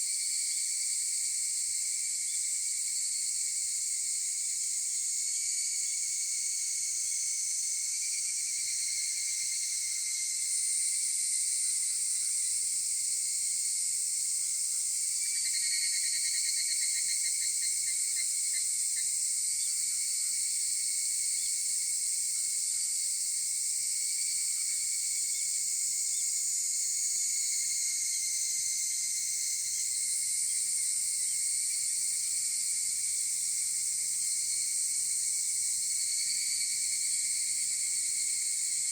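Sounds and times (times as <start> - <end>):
chorus of cicadas and insects: 0.0 - 38.9
rapidly pulsed insect trill: 0.0 - 38.9.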